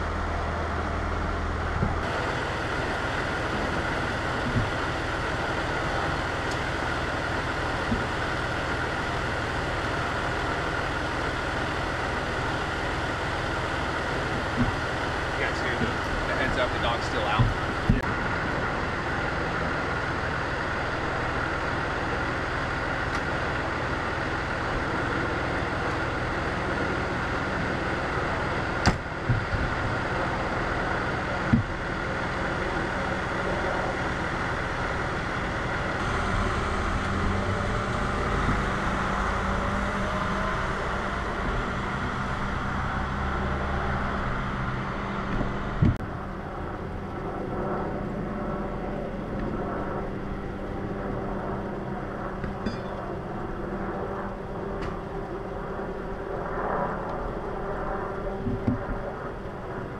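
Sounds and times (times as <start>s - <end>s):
diesel engine idling: 0.0s - 55.5s.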